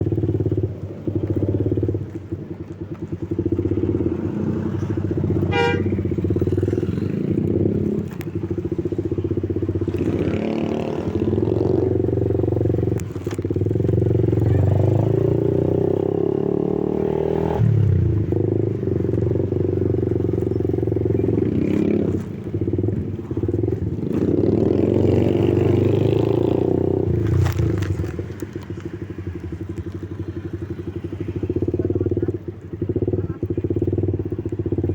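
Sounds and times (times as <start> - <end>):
vehicle engines running: 0.0 - 34.9.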